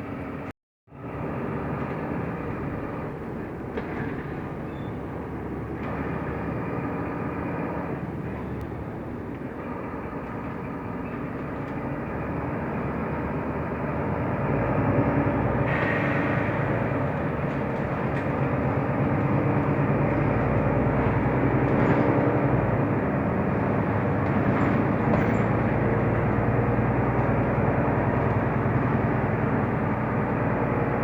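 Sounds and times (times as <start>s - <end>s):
bus engine and road noise: 0.0s - 31.0s.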